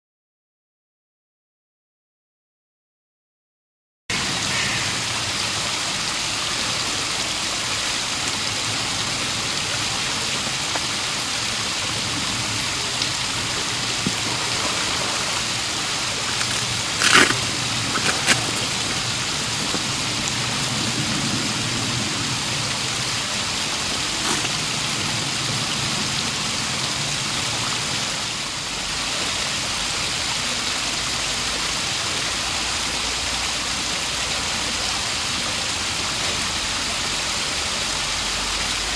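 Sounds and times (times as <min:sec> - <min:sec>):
running water rushing: 0:04.1 - 0:38.9.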